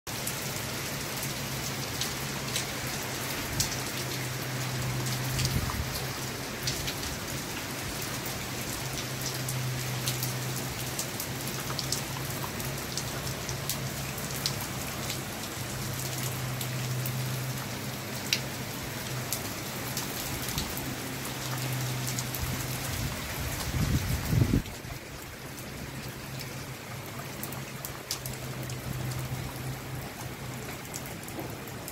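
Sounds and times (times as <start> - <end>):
heavy rain falling: 0.1 - 31.9
raindrops clicking on surface: 1.2 - 31.9.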